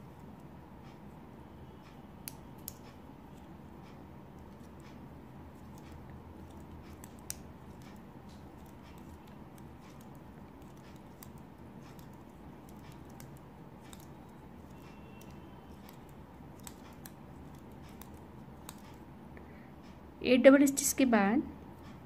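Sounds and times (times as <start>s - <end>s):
small clicks of tatting shuttle: 0.0s - 19.2s
steady low hum: 0.0s - 22.0s.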